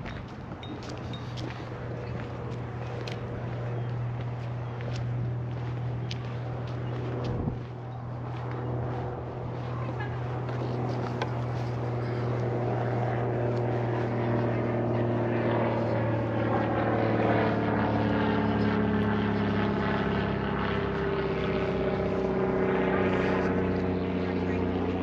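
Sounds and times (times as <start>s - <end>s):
engine drone with held tones: 0.0s - 25.0s.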